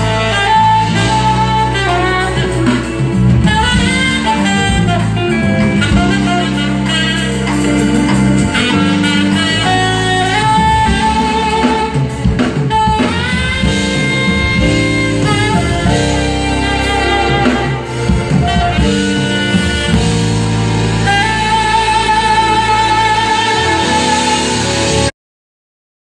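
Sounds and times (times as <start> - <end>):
bass: 0.0 - 25.1
drum kit: 0.0 - 25.1
electric guitar: 0.0 - 25.1
keyboard: 0.0 - 25.1
saxophone melody: 0.0 - 25.1.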